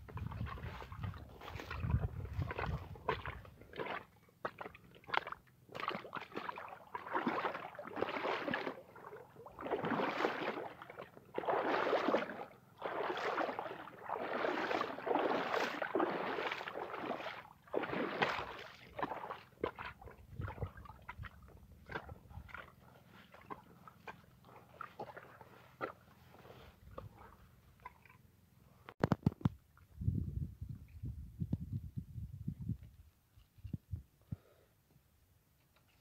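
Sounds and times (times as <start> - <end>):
water sloshing against mud bank: 0.0 - 30.0.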